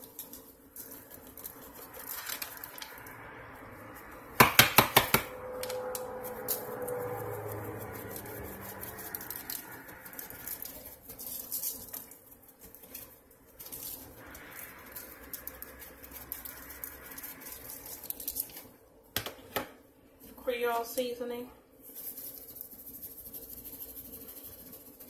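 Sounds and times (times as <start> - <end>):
seasoning shaker rattling: 0.0 - 18.8, 21.8 - 25.0.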